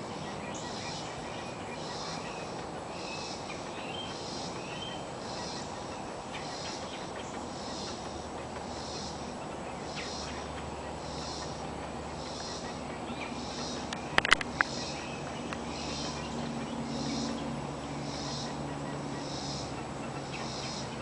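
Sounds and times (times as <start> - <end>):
bird chirps: 0.0 - 21.0.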